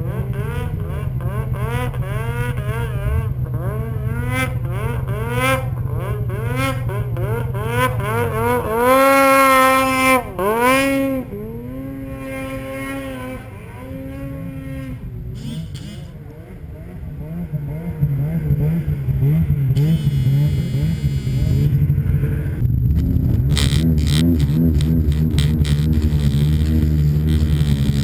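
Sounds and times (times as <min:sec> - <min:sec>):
low pulsing engine drone: 0:00.0 - 0:28.0
snowmobile engine high revs: 0:00.0 - 0:28.0.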